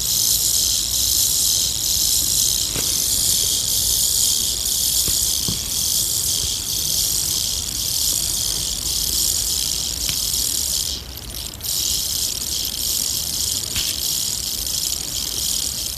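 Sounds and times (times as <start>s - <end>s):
tarantula hissing: 0.0s - 15.9s.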